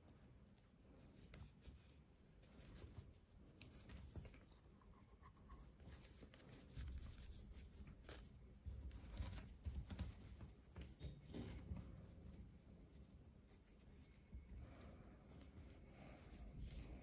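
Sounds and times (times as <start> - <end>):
paper yarn rustling: 0.0 - 17.0.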